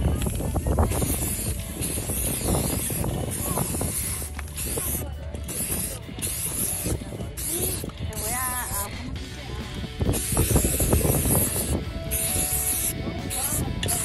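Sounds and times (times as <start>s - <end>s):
spray-paint cans hissing: 0.0s - 14.0s.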